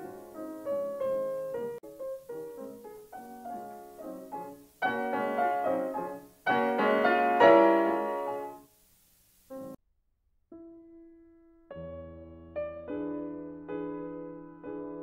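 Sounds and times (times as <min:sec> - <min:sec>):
solo piano: 0:00.0 - 0:08.7, 0:09.5 - 0:09.8, 0:10.5 - 0:15.0.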